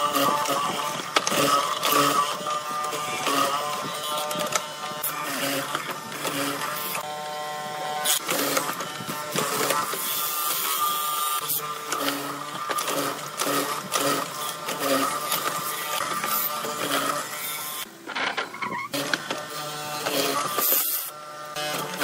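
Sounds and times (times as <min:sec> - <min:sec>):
mortising machine motor hum: 0:00.0 - 0:22.0.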